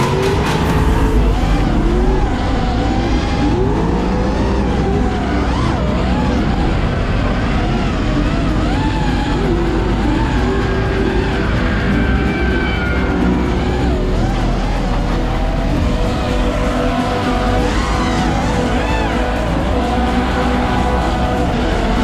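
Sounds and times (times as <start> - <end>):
car engines revving: 0.0 - 22.0
constant rush: 0.0 - 22.0.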